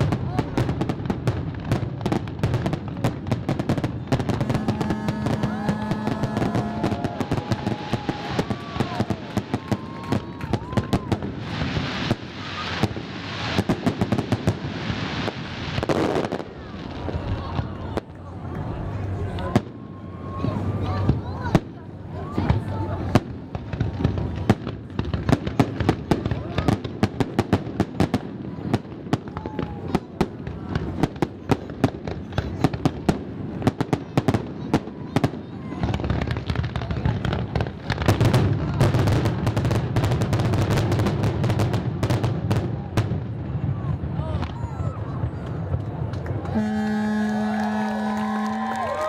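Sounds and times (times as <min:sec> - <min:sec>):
fireworks bangs and crackling: 0:00.0 - 0:47.2.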